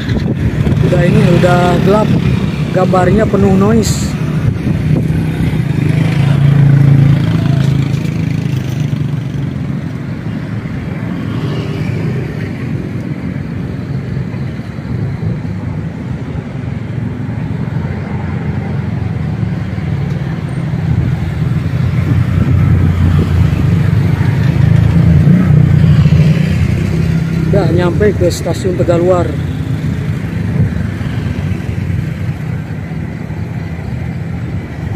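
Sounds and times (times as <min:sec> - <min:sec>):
road traffic engines humming: 0:00.0 - 0:34.9.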